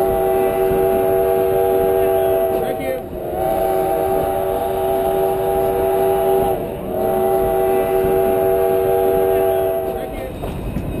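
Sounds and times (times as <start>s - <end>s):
steam locomotive chime whistle: 0.0s - 10.5s
train rolling rumble: 0.0s - 11.0s.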